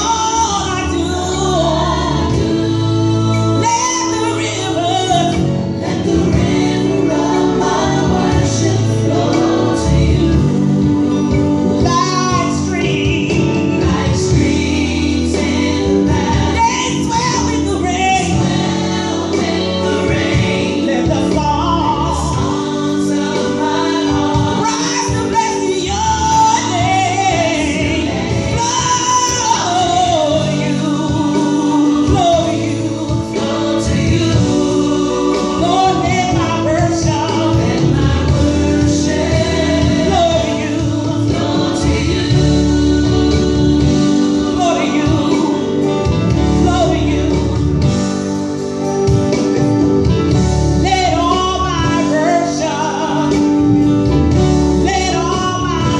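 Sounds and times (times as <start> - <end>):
gospel singing: 0.0 - 55.9
instrumental backing: 0.0 - 55.9.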